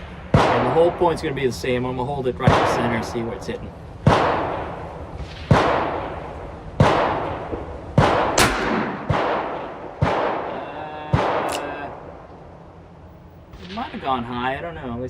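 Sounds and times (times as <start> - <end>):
revolver gunshots echoing: 0.0 - 12.6, 13.6 - 14.6.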